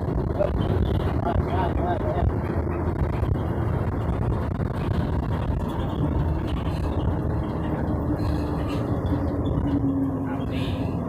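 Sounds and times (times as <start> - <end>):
steady droning tone: 0.0 - 11.0
vehicle engine and road noise: 0.0 - 11.0.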